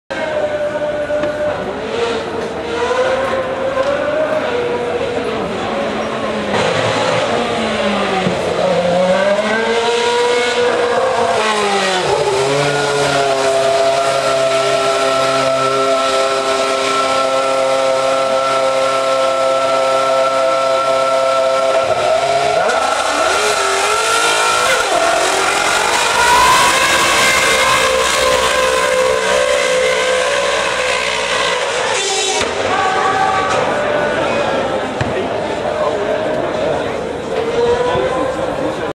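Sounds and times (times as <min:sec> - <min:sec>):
racing car engine revving: 0:00.1 - 0:38.9
racing car pulling away: 0:00.1 - 0:38.9.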